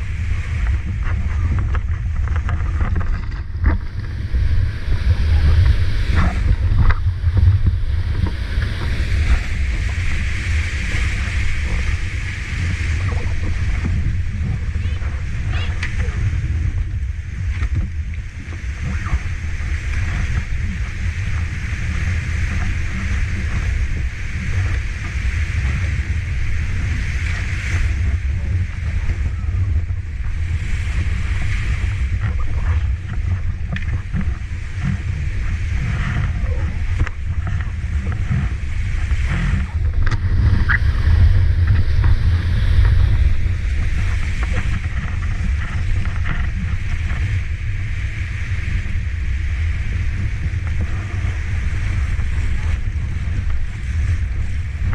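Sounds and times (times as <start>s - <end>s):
deep rumble: 0.0s - 54.9s.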